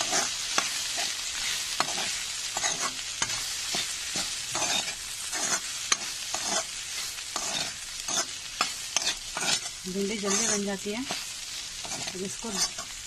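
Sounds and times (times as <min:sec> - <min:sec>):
spatula scraping a pan: 0:00.0 - 0:13.0
vegetables sizzling in a pan: 0:00.0 - 0:13.0.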